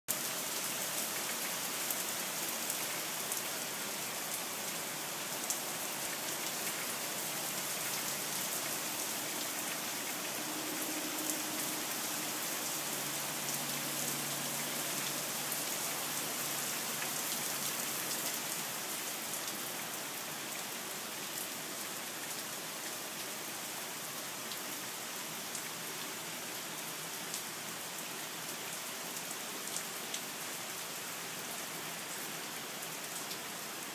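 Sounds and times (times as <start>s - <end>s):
rain on leaves and wooden deck: 0.1s - 33.9s.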